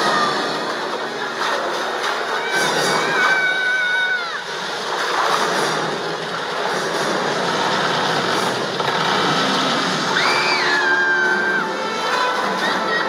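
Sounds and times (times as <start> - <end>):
floodwater rushing and sloshing: 0.0 - 13.0.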